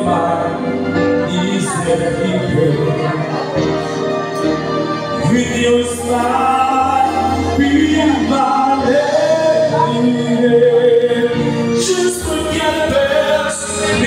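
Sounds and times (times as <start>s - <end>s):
backing music: 0.0s - 14.0s
man singing into microphone: 0.0s - 14.0s.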